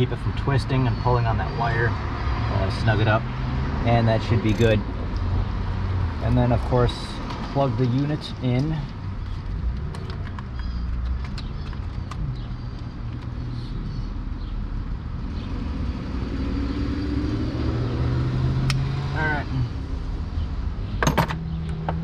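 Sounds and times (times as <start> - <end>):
motor vehicle engine rumbling: 0.0 - 22.0.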